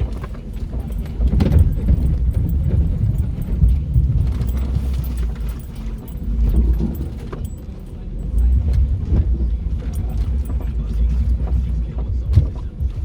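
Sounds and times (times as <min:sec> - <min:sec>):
knocks and rattles: 0:00.0 - 0:11.6
vehicle engine rumbling low: 0:00.0 - 0:13.0.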